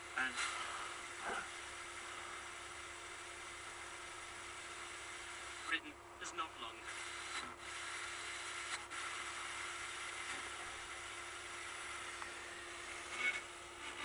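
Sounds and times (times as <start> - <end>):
faint steady hum: 0.0 - 14.0
radio static hissing: 0.0 - 14.0.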